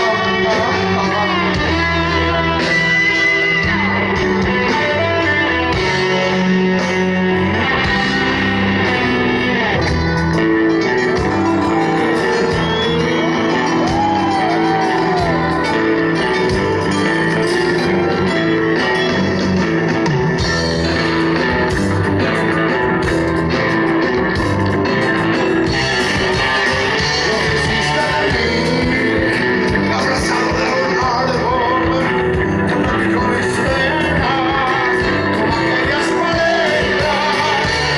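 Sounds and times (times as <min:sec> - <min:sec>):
person singing: 0:00.0 - 0:19.2, 0:25.6 - 0:37.9
live rock band playing: 0:00.0 - 0:37.9.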